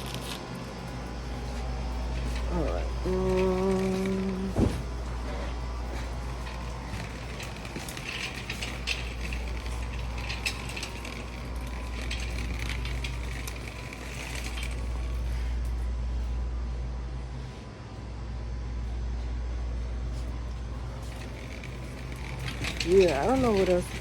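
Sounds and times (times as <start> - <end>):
light clicking and rattling: 0.0 - 15.8, 20.2 - 24.0
steady low rumble: 0.0 - 24.0.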